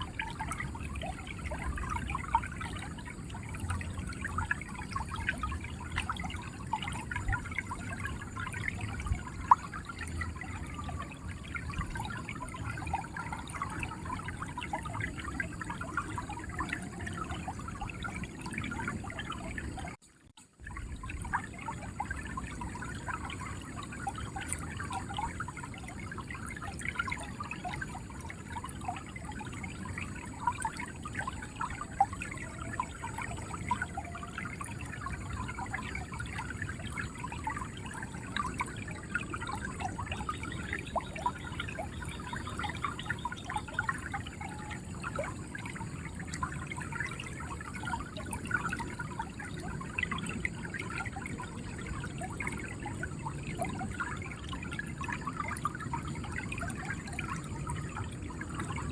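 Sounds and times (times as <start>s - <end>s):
river water flowing: 0.0s - 19.9s, 20.7s - 58.9s.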